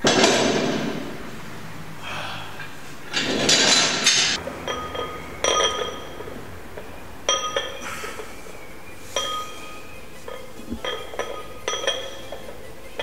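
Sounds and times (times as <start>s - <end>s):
weight plates clinking: 0.0s - 1.2s, 3.0s - 8.4s, 9.0s - 13.0s.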